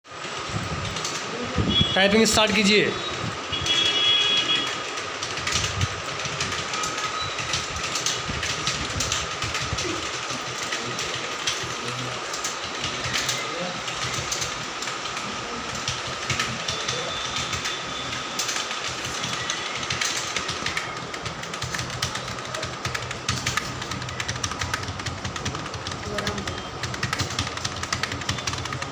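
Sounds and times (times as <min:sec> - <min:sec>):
keyboard keys clicking: 0:00.8 - 0:01.4, 0:03.6 - 0:28.9.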